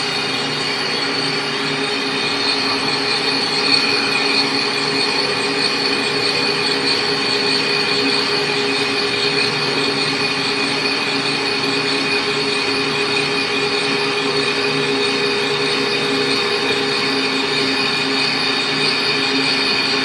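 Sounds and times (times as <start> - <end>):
machine squealing and whining: 0.0 - 20.0.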